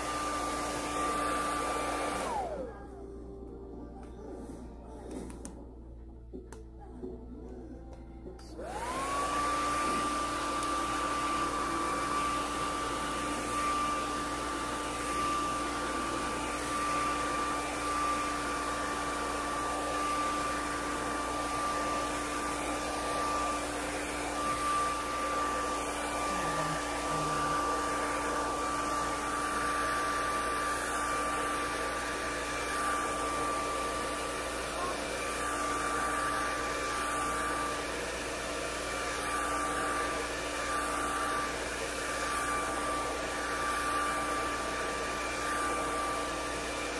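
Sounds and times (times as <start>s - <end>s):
hair dryer running: 0.0s - 6.8s, 8.0s - 46.9s.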